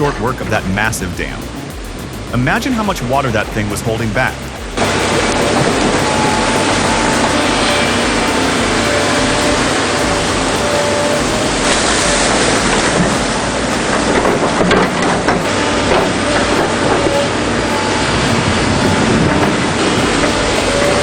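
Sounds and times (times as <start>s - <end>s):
heavy machine engine: 0.0s - 21.0s
steel tracks clanking and squealing: 0.0s - 21.0s.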